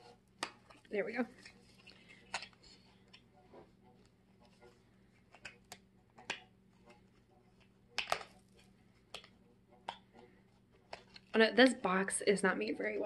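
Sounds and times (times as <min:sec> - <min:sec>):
cards tapping and rustling: 0:00.3 - 0:03.2, 0:04.0 - 0:11.8.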